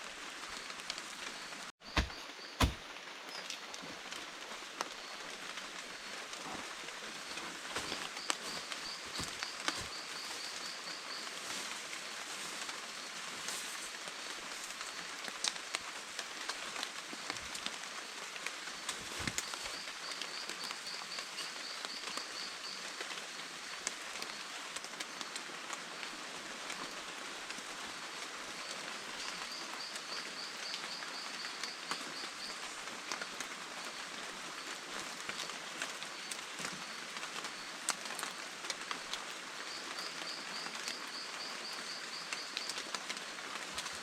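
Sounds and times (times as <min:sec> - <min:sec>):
rain on foliage: 0:00.0 - 0:44.0.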